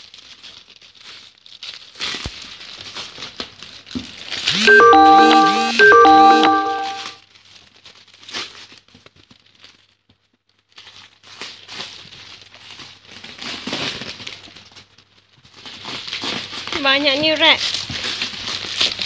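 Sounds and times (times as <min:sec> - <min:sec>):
plastic wrap crinkling: 0:00.0 - 0:04.4, 0:07.3 - 0:19.0.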